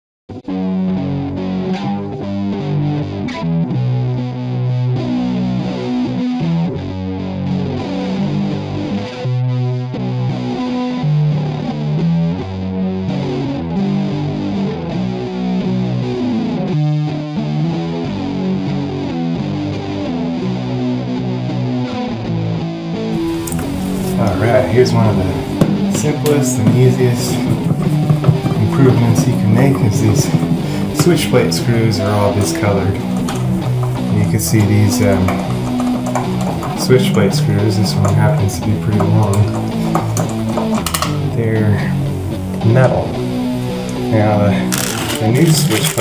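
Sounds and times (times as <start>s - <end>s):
distorted electric guitar: 0.4s - 46.0s.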